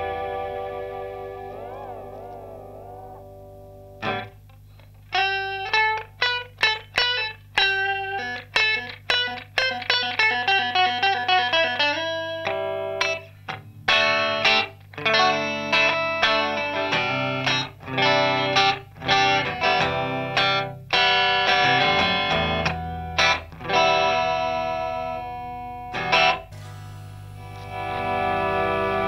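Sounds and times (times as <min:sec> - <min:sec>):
electric guitar with delay: 0:00.0 - 0:29.0.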